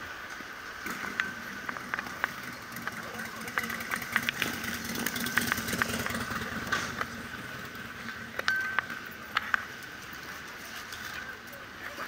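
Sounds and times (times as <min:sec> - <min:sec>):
city street noise: 0:00.0 - 0:12.0
motorcycle engine idling: 0:00.8 - 0:11.8.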